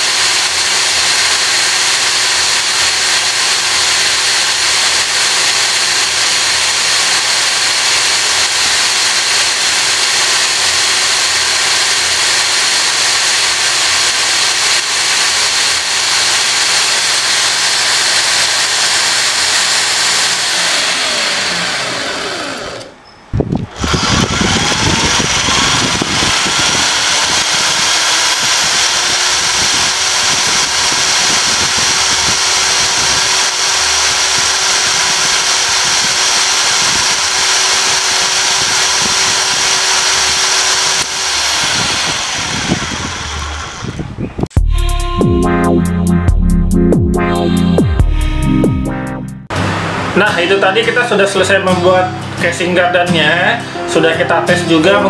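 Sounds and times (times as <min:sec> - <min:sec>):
electric drill spinning gears: 0:00.0 - 0:44.6.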